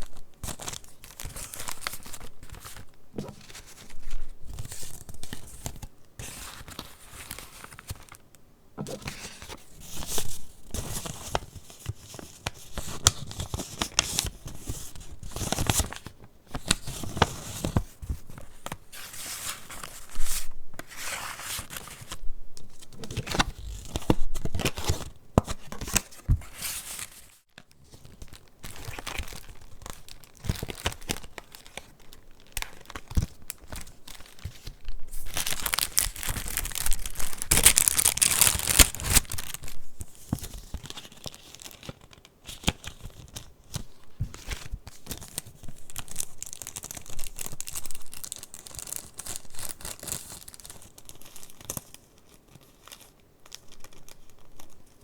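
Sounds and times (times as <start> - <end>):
paper pages rustling: 0.0 - 8.2, 8.8 - 55.0.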